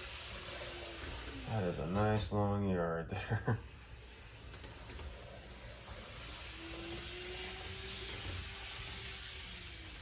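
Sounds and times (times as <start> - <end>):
model train motor whine: 0.0 - 2.0, 3.7 - 10.0.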